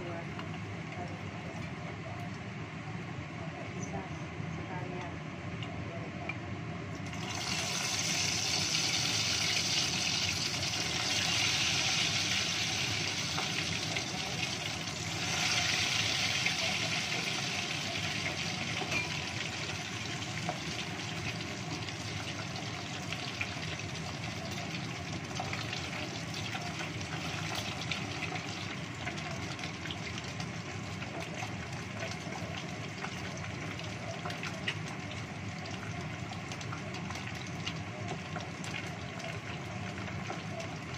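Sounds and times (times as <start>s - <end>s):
hot oil sizzling and crackling: 6.9s - 40.9s.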